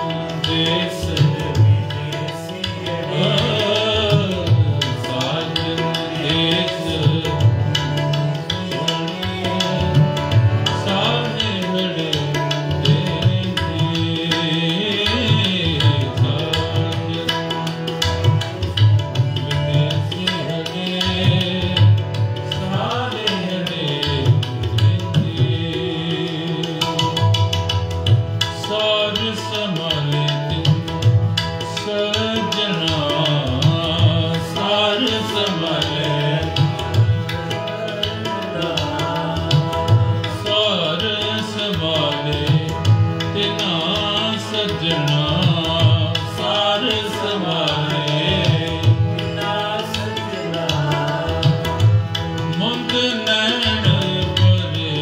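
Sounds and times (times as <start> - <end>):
harmoniums playing: 0.0 - 55.0
man singing: 0.0 - 55.0
tabla drums: 0.0 - 55.0.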